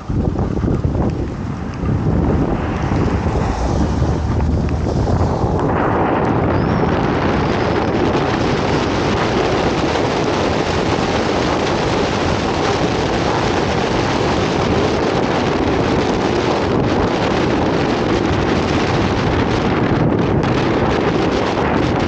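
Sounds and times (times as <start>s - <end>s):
moving vehicle running noise: 0.0s - 22.0s
wind buffeting microphone: 0.0s - 22.0s.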